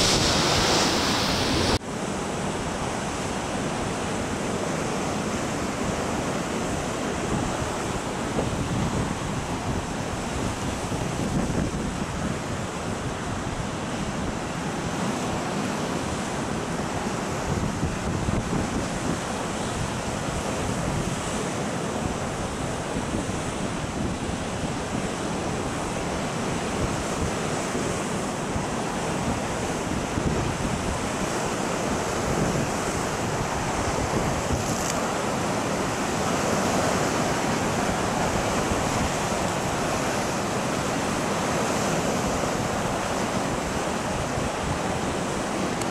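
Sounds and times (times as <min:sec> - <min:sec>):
wind buffeting microphone: 0:00.0 - 0:01.8, 0:06.7 - 0:14.4, 0:16.9 - 0:21.4, 0:22.0 - 0:45.9.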